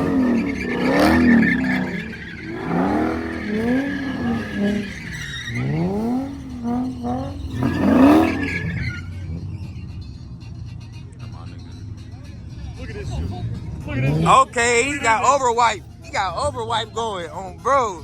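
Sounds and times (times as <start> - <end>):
car engine revving: 0.0 - 18.0
tires squealing: 0.0 - 18.0.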